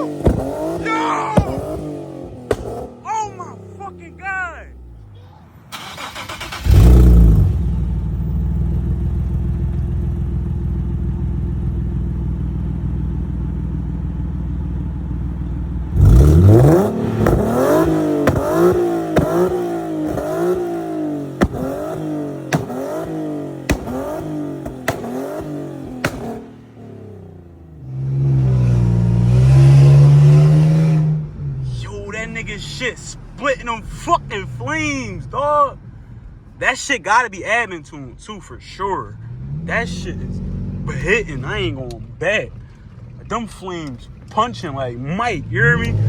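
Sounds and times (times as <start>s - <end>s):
exhaust cracks: 0.0s - 12.4s, 15.7s - 36.3s, 39.4s - 46.0s
car engine revving: 0.0s - 36.5s, 38.1s - 46.0s.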